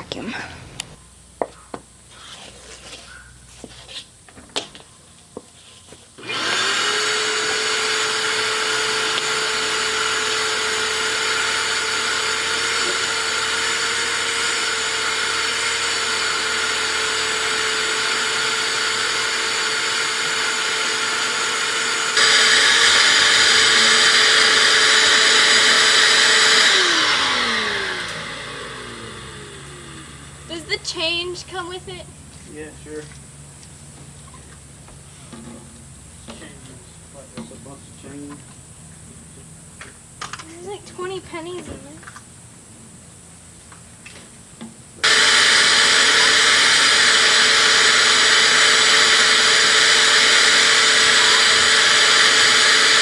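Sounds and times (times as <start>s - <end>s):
shop vac running with whine: 6.1s - 42.2s, 43.3s - 53.0s.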